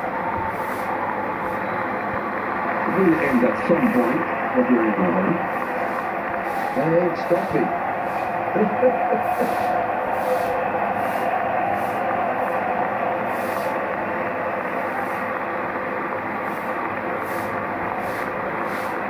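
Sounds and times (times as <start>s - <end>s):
crowd applauding and cheering: 0.0s - 19.0s.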